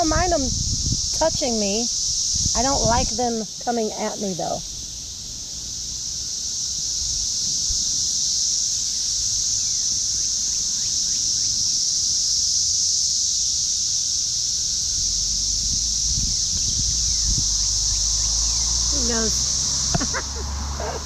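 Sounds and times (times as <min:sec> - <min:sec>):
cicadas chorus humming: 0:00.0 - 0:21.0.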